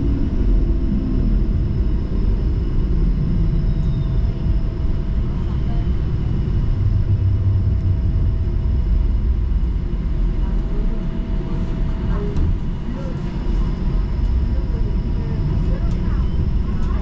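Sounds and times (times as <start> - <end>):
streetcar rumbling on track: 0.0 - 17.0.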